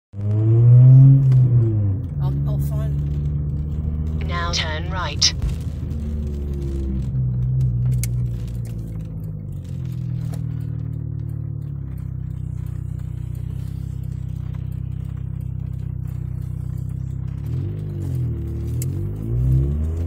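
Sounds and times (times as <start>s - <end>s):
car engine drone in cabin: 0.2s - 20.0s.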